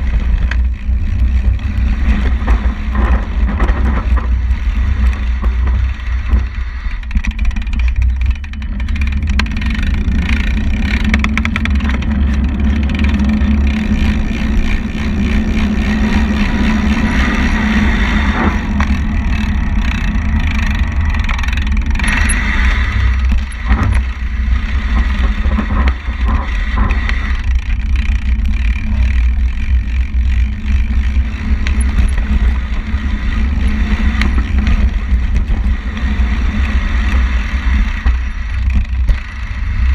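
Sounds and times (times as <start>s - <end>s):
mountain bike rattling over ground: 0.0s - 39.9s
wind buffeting microphone: 0.0s - 39.9s.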